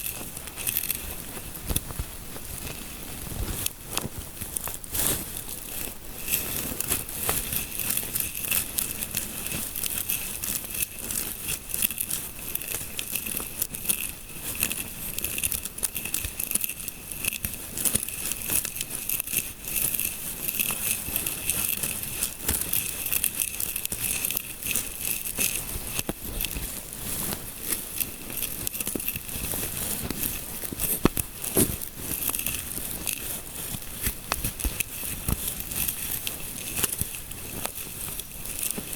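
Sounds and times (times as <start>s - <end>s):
fingers scratching through hair: 0.0s - 38.9s.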